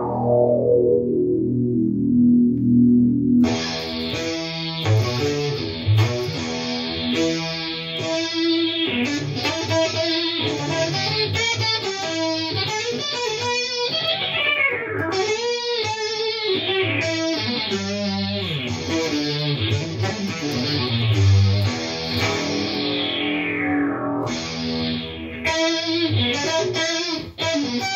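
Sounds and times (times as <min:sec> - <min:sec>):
synth-voiced electric guitar notes: 0:00.0 - 0:27.9.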